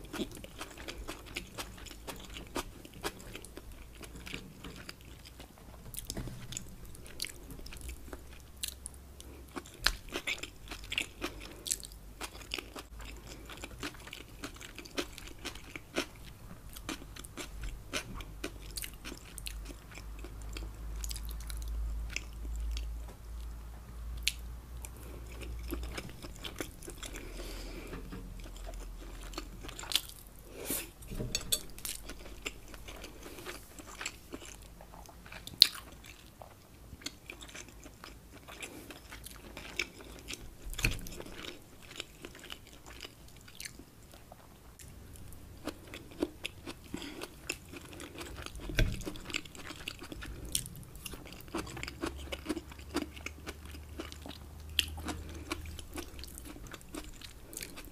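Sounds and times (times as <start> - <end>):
close chewing of food: 0.0 - 23.5, 24.2 - 57.9.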